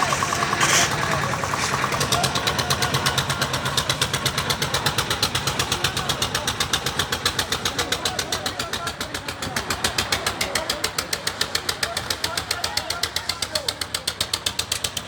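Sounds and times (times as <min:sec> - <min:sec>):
concrete mixer engine running: 0:00.0 - 0:15.0.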